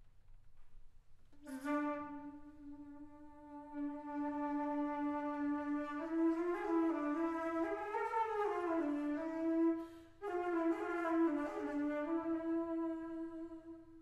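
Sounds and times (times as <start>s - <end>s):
buzzy flute melody: 1.4s - 14.0s.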